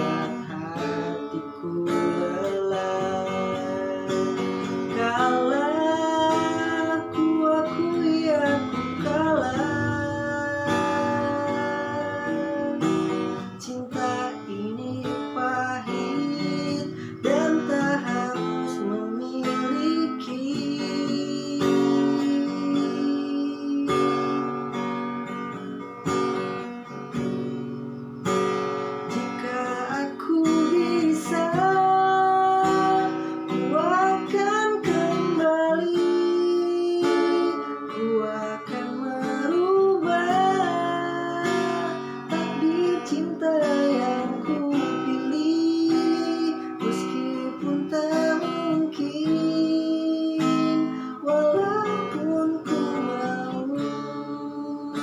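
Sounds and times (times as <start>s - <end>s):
person singing: 0.0s - 24.7s, 29.1s - 55.0s
acoustic guitar strumming: 0.0s - 55.0s.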